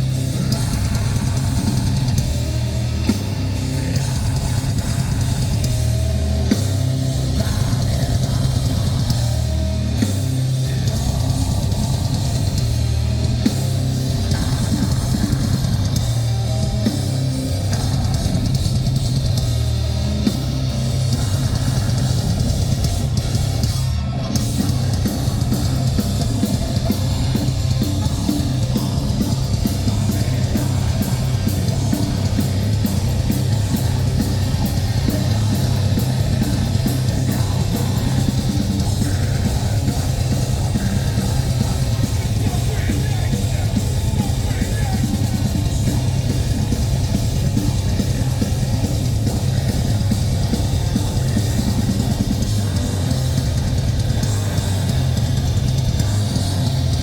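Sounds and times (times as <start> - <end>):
distorted guitars and bass: 0.0 - 57.0
pounding drums: 0.0 - 57.0.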